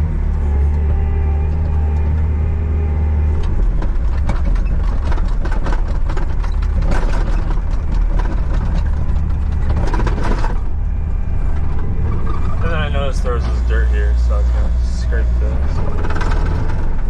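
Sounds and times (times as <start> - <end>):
skid steer engine running: 0.0 - 17.0
rattling and clanking knocks: 3.3 - 17.0.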